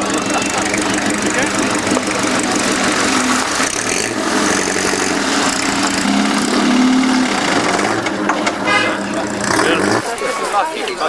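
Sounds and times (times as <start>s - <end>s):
car engine running: 0.0s - 10.7s.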